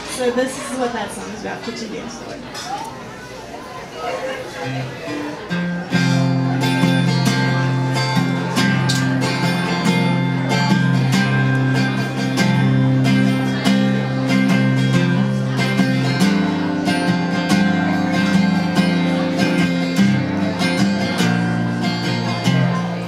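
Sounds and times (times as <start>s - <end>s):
live country band instrumental: 3.4s - 23.0s
strummed acoustic guitar: 4.4s - 23.0s.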